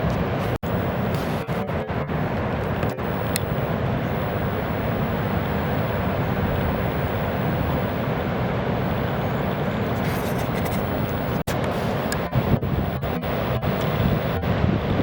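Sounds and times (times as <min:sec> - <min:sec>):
ocean surf roaring: 0:00.0 - 0:15.0.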